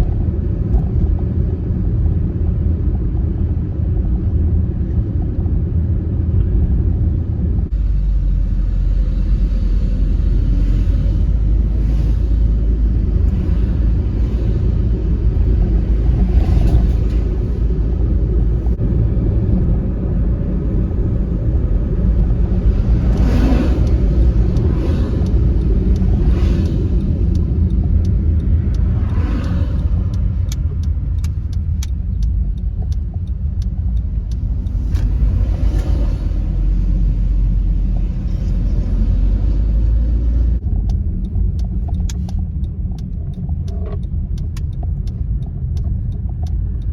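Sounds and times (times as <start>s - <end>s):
car engine and road rumble: 0.0s - 46.9s
passing traffic: 0.0s - 46.9s.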